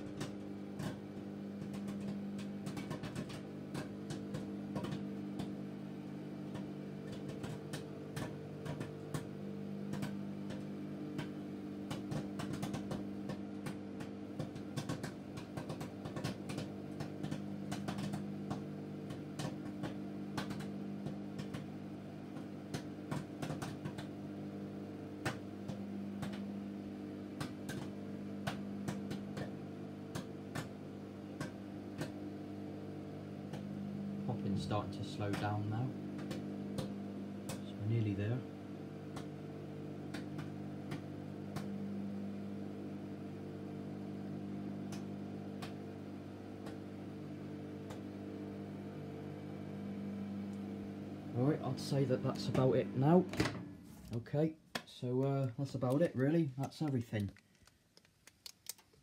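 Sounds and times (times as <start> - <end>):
popcorn popping: 0.0 - 49.8, 50.4 - 59.0
microwave oven humming: 0.0 - 57.3.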